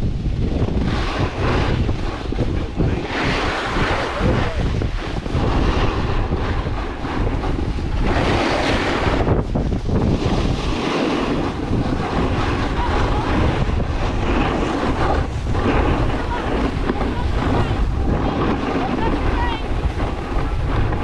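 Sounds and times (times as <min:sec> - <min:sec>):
snowboard scraping on snow: 0:00.0 - 0:21.0
wind buffeting microphone: 0:00.0 - 0:21.0.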